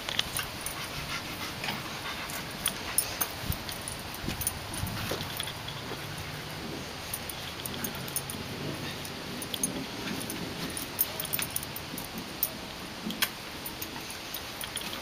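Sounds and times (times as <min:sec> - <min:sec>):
dog tags jingling: 0:00.1 - 0:06.4, 0:07.0 - 0:15.0.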